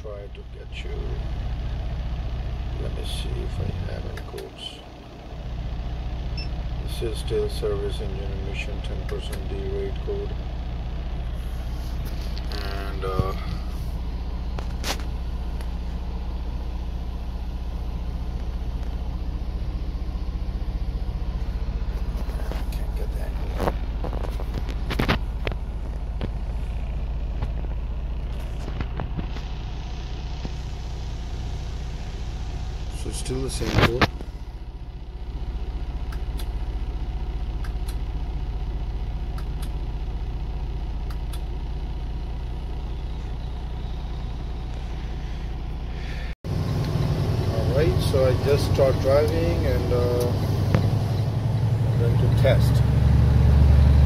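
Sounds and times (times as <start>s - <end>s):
truck diesel engine idling: 0.0s - 54.0s.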